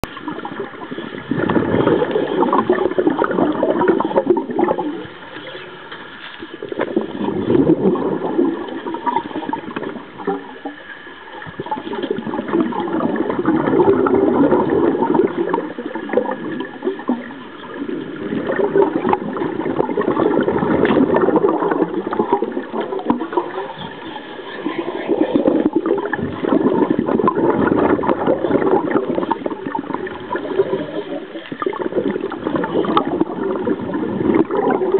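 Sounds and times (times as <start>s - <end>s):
exhaled bubbles gurgling: 0.0s - 34.9s.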